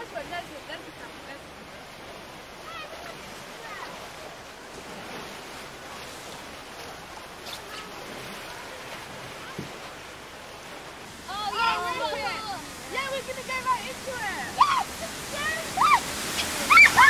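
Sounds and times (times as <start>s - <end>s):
rushing churning water: 0.0s - 17.0s.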